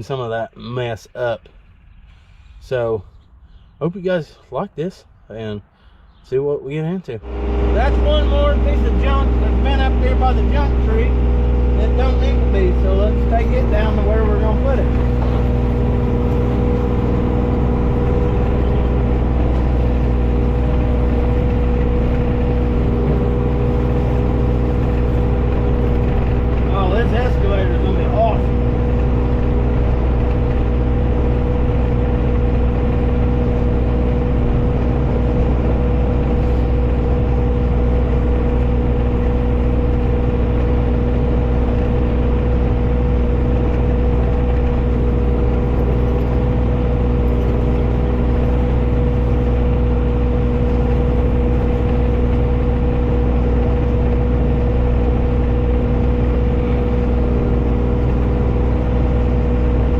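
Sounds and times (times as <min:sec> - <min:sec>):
diesel engine running steadily: 0:07.2 - 0:59.9.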